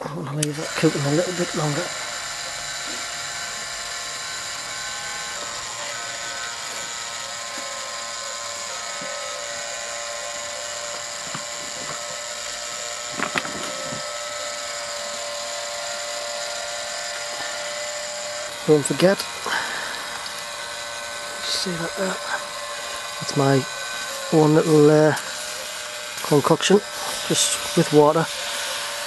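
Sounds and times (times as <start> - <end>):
electric motor whining: 0.0 - 29.0.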